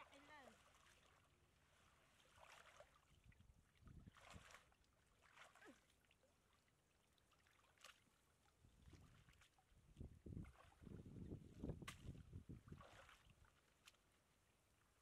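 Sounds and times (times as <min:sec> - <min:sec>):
muddy water splashing: 0:00.0 - 0:14.2.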